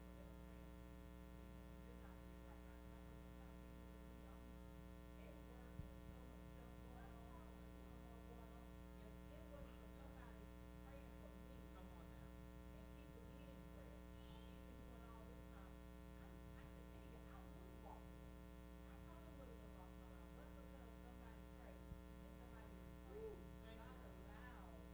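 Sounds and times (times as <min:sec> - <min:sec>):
steady electrical hum: 0:00.0 - 0:24.9
faint indistinct voices: 0:01.4 - 0:24.9.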